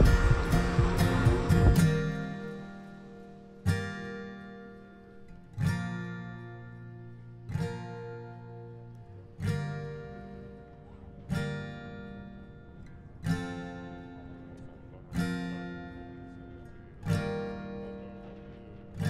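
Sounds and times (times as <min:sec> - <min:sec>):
acoustic guitar chords strummed: 0:00.0 - 0:19.0.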